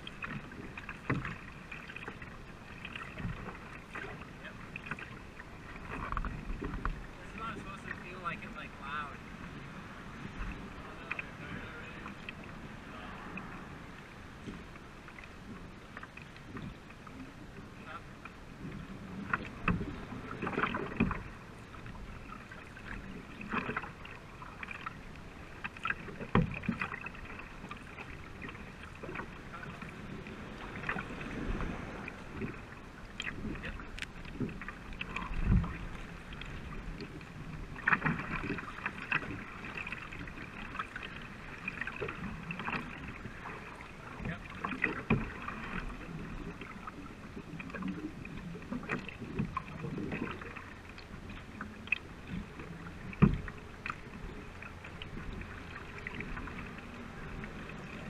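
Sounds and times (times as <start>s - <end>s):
paddle splashing in water: 0.0s - 58.0s
water washing along hull: 0.0s - 58.0s.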